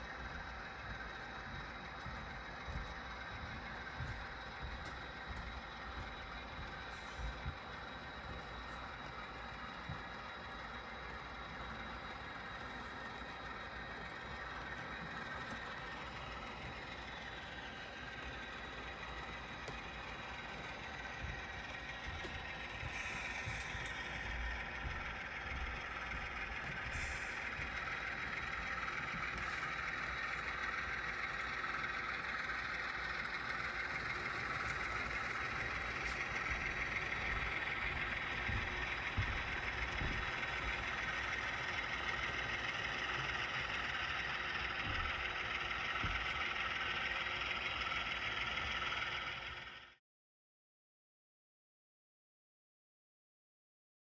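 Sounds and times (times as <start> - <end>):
model train running: 0.0 - 50.0.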